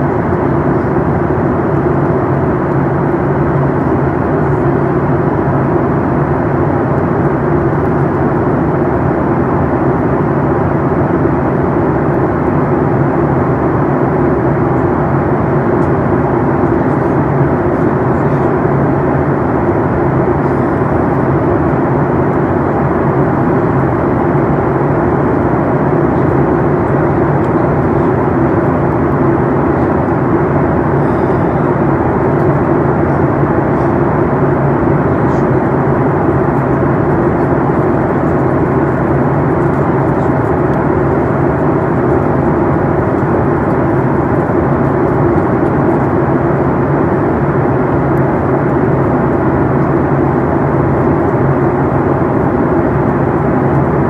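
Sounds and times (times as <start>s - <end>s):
aircraft cabin rush: 0.0s - 54.0s
low hum: 0.0s - 54.0s.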